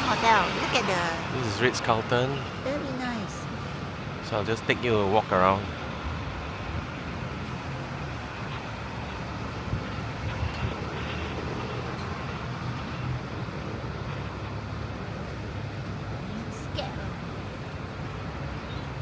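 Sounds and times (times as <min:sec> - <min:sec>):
low city rumble: 0:00.0 - 0:19.0.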